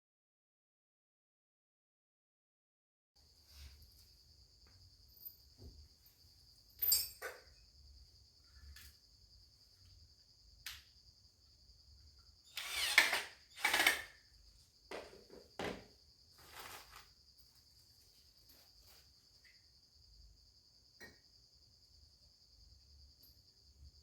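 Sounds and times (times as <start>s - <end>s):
high insect trill: 3.2s - 24.0s.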